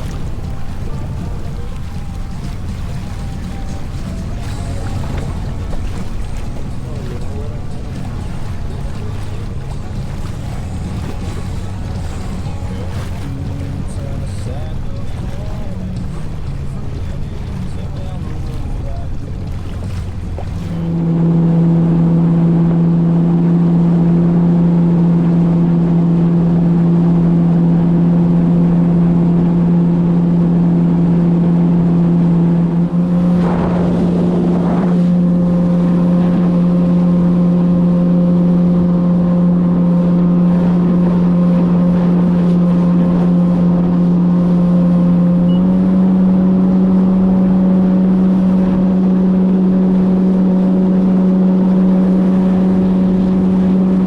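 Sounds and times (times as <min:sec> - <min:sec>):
jet ski engine drone: 0:00.0 - 0:54.0.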